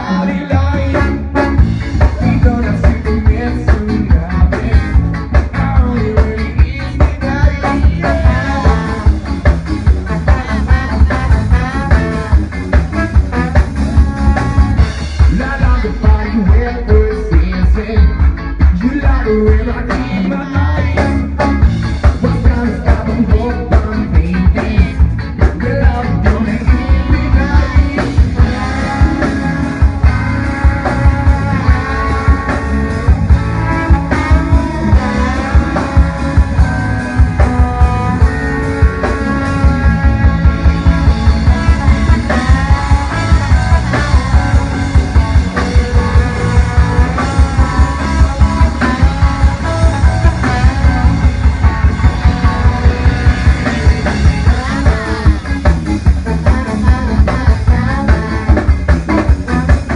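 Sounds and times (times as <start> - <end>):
person singing: 0.0 - 12.4, 15.2 - 59.9
bass: 0.0 - 59.9
guitar: 0.0 - 59.9
steady drum beat: 0.0 - 59.9.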